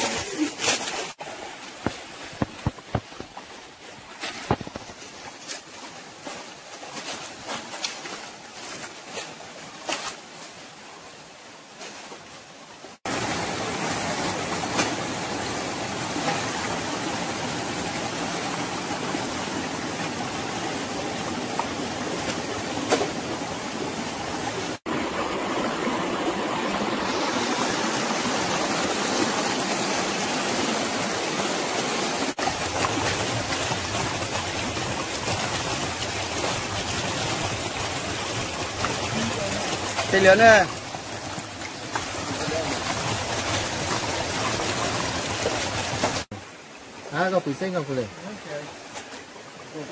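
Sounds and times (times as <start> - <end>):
stream flowing over rocks: 0.0 - 49.9.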